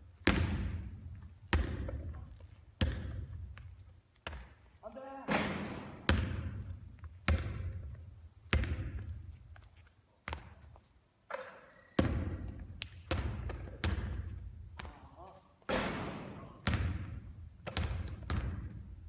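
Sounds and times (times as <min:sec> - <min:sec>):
basketball bouncing: 0:00.2 - 0:04.6, 0:05.3 - 0:09.2, 0:10.2 - 0:10.7, 0:11.3 - 0:19.0.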